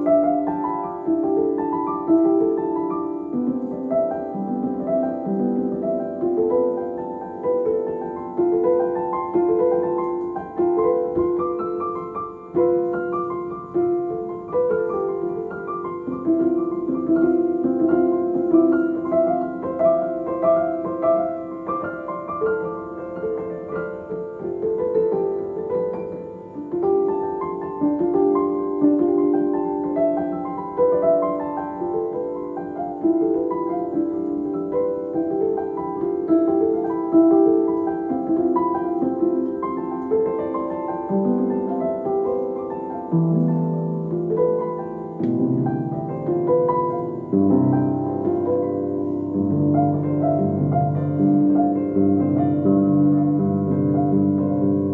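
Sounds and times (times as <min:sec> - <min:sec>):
gentle piano melody: 0:00.0 - 0:54.9.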